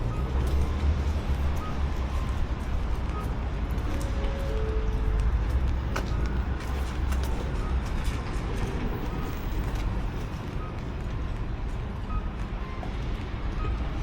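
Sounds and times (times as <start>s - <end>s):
street ambience rumble: 0.0s - 14.0s.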